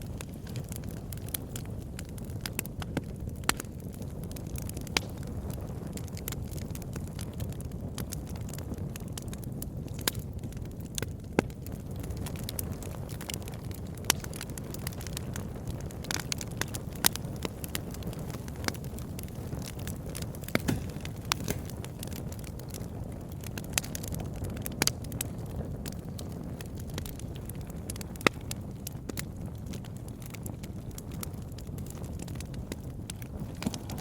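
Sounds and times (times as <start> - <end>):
campfire crackling and popping: 0.0 - 34.0
low rumble of burning: 0.0 - 34.0.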